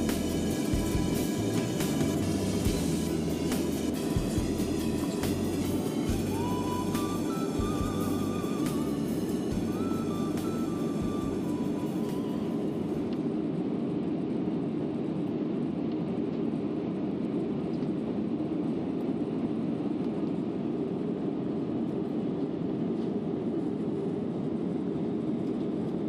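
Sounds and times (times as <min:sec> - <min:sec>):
airliner cabin noise: 0:00.0 - 0:26.0.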